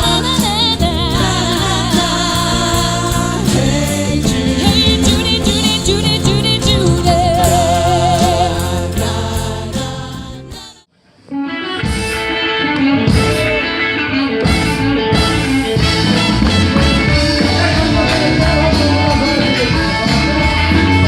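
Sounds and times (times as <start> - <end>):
live band with singing: 0.0 - 21.0.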